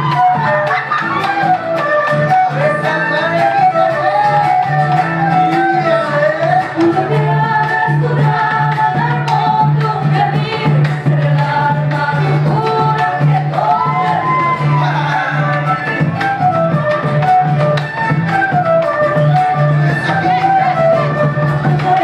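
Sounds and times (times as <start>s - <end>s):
voices singing: 0.0s - 16.4s, 19.6s - 22.0s
acoustic guitar: 0.0s - 22.0s
violin: 0.0s - 22.0s.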